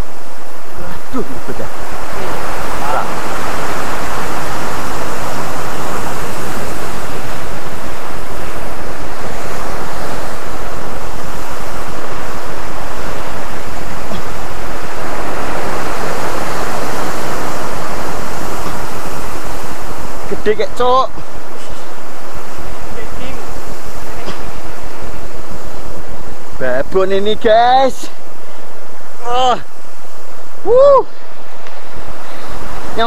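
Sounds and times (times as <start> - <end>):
sea surf breaking against rocks: 0.0 - 33.0.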